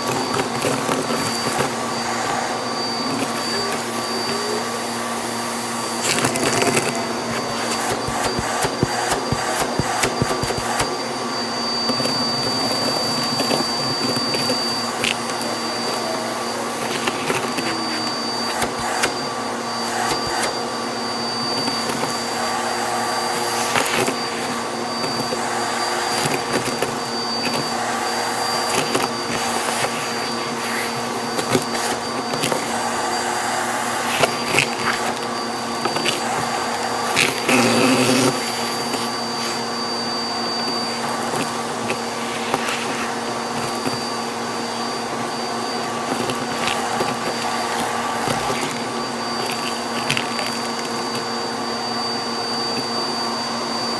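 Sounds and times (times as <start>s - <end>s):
vacuum cleaner whining: 0.0s - 53.9s.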